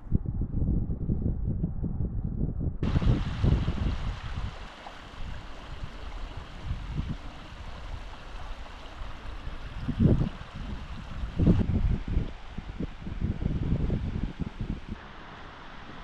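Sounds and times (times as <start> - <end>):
wind buffeting microphone: 0.0 - 16.0
water rushing: 2.8 - 16.0.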